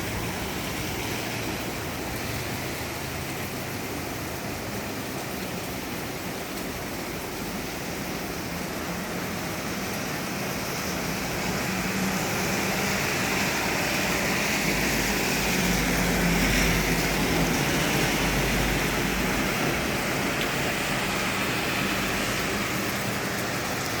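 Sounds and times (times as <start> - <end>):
rain rushing: 0.0 - 24.0.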